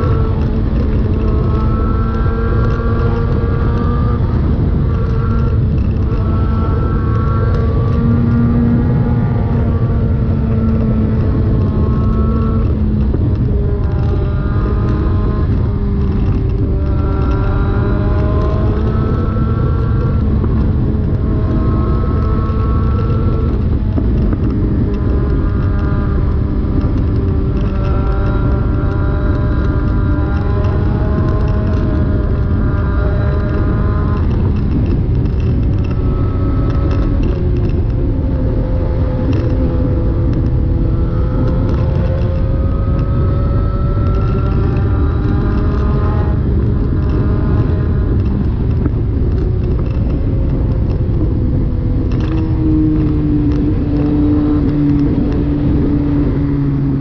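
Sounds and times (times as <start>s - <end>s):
loud motorcycle exhaust note: 0.0s - 57.0s.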